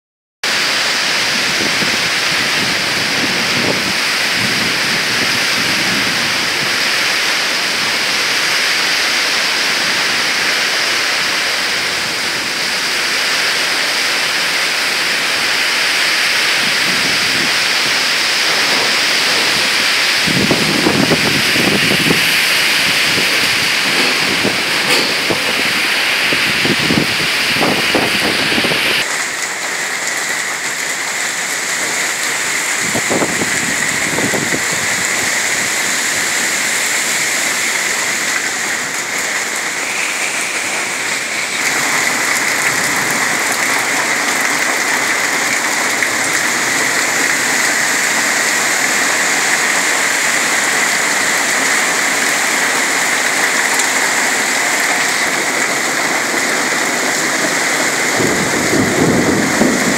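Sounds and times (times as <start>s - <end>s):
heavy rain pouring: 0.4s - 59.9s.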